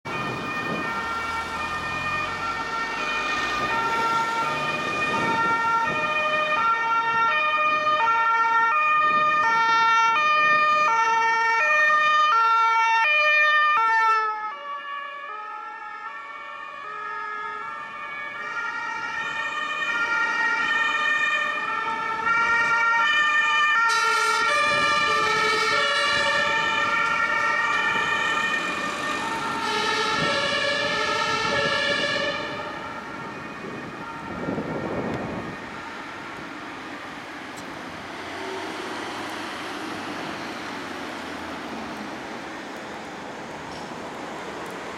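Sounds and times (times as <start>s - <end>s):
traffic noise: 0.0s - 44.9s
two-tone emergency siren: 0.0s - 44.9s.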